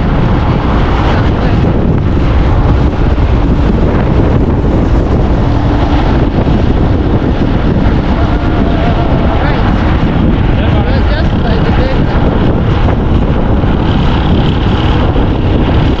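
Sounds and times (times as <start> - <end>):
road and engine noise: 0.0 - 16.0
wind buffeting microphone: 0.0 - 16.0.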